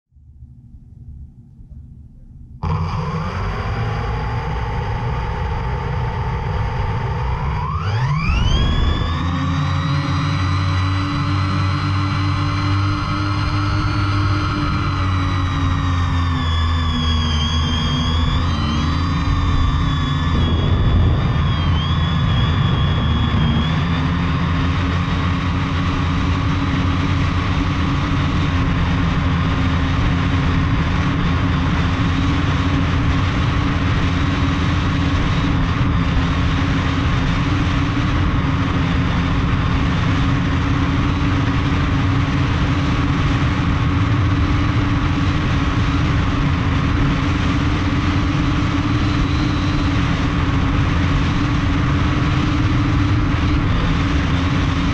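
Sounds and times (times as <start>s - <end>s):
drone motors humming: 1.6s - 54.9s.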